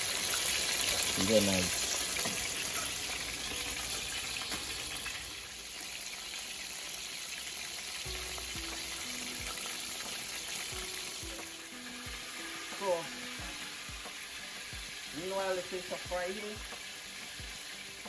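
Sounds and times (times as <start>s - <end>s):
fish deep-frying in oil: 0.0s - 18.0s.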